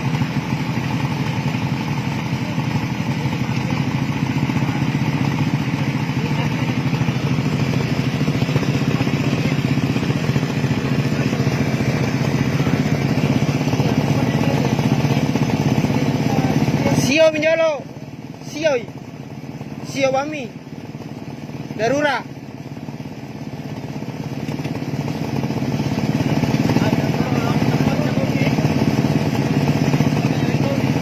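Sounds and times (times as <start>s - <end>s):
motorcycle engine running steadily: 0.0s - 31.0s.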